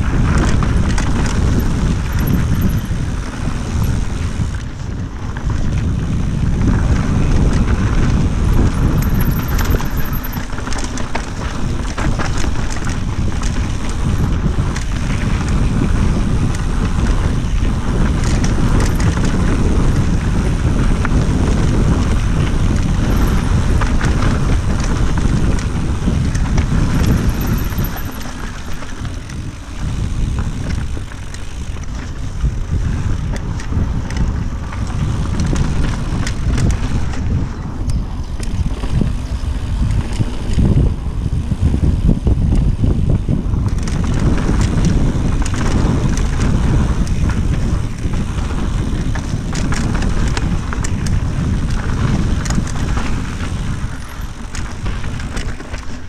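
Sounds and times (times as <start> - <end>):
bike rattling and clicking: 0.0 - 56.0
bike tyres rolling on dirt: 0.0 - 56.0
wind buffeting microphone: 0.0 - 56.0.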